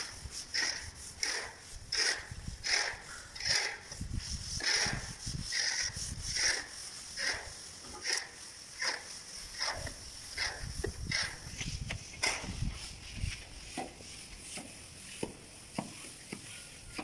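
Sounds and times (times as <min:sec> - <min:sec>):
float scraping wet plaster: 0:00.0 - 0:17.0.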